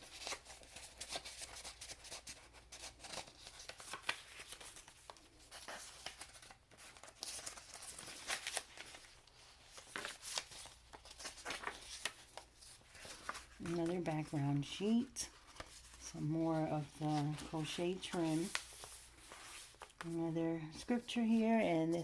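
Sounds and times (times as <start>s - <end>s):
paper pages rustling: 0.0s - 22.0s.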